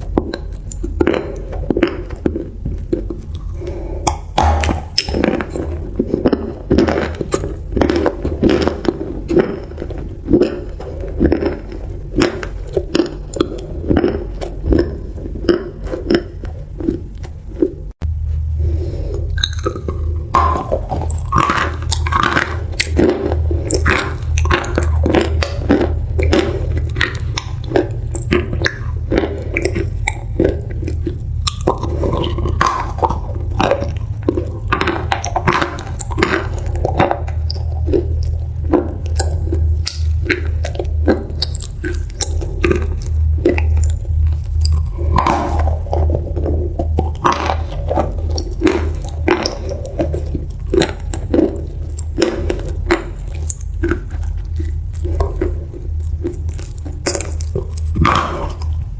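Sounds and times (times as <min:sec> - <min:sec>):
chewing crunchy food: 0:00.0 - 0:58.9
low hum: 0:00.0 - 0:58.9.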